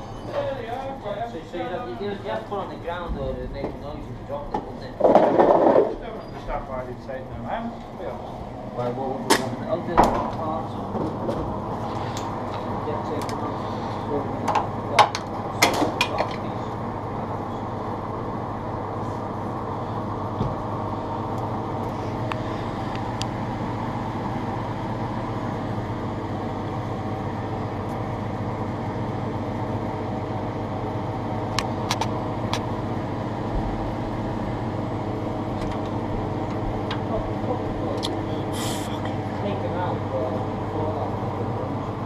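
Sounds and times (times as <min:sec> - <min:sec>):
mechanical hum: 0:00.0 - 0:42.0.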